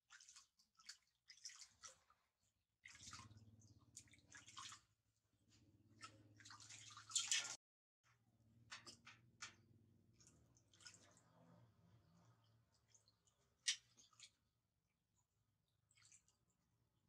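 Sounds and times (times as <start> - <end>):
water splashing in metal basin: 0.0 - 7.6, 8.7 - 14.6, 15.7 - 17.0.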